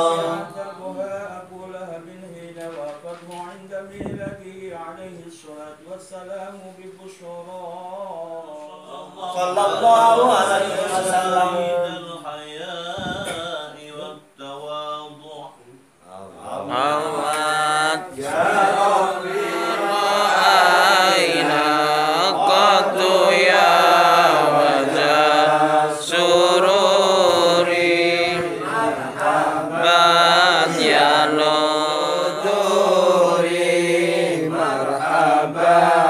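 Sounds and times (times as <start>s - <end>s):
men chanting in unison: 0.0s - 2.8s, 3.6s - 36.0s.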